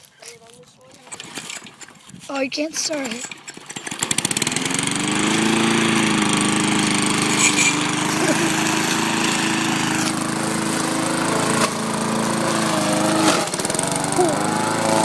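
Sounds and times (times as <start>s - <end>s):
lawnmower engine running: 1.0s - 2.0s, 2.8s - 15.0s.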